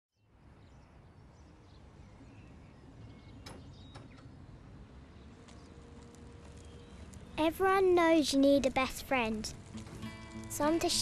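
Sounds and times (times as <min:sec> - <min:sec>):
distant traffic rumble: 0:00.3 - 0:11.0.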